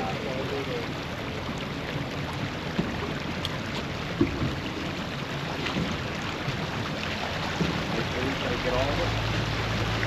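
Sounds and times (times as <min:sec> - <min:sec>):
water rushing around boat: 0:00.0 - 0:10.0
wind: 0:00.0 - 0:10.0.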